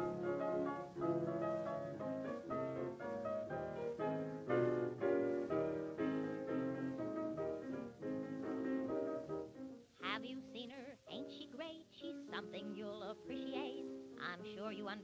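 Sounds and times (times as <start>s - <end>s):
instrumental piano music: 0.0s - 15.0s.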